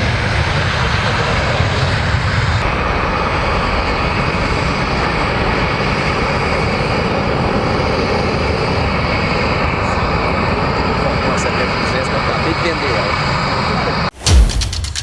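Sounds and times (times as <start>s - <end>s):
plane engines running: 0.0s - 15.0s.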